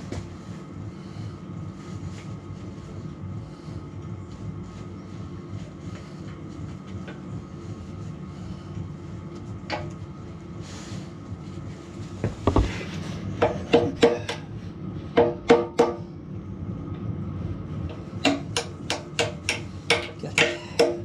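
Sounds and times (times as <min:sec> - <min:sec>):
space heater rumbling: 0:00.0 - 0:21.0.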